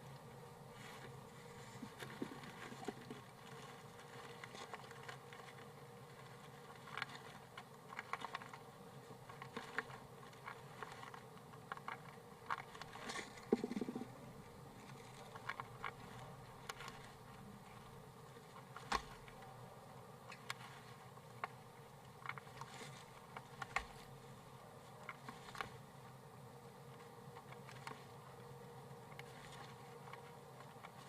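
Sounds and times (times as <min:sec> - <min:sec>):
low steady hum and hiss: 0:00.0 - 0:31.0.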